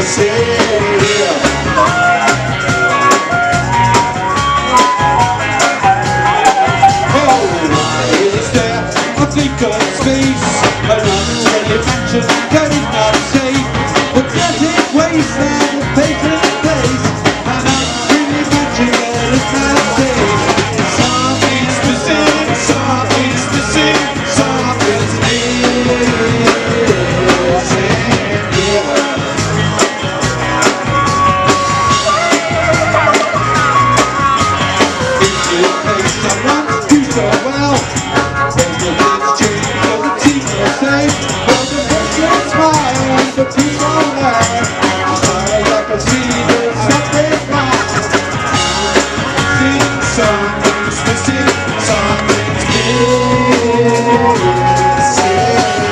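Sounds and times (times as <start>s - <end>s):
live rock band playing: 0.0s - 55.9s
steady drum beats: 0.0s - 55.9s.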